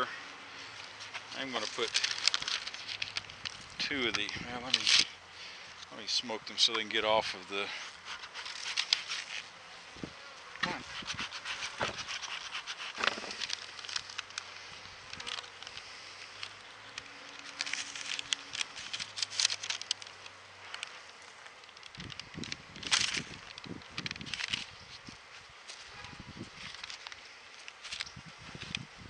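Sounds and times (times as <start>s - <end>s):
honey bees buzzing: 0.0s - 28.6s
paper rustling: 0.6s - 5.1s, 6.6s - 9.5s, 10.6s - 28.8s.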